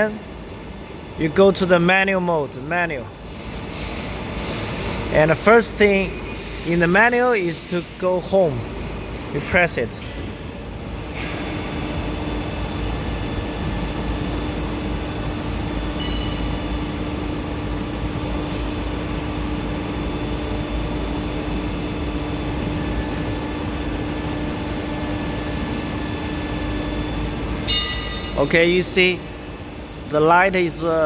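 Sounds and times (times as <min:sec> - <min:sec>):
machine hum with constant tone: 0:00.0 - 0:31.0.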